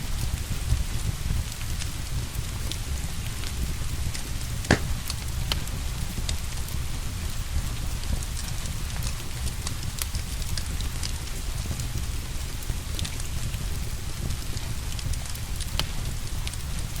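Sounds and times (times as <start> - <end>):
wood fire crackling: 0.3 - 17.0.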